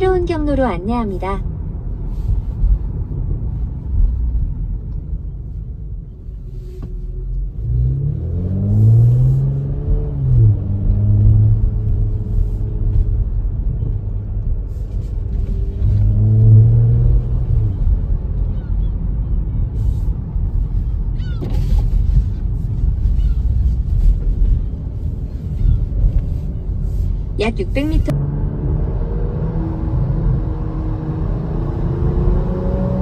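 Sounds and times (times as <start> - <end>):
car engine: 0.0 - 33.0
road rumble: 0.0 - 33.0.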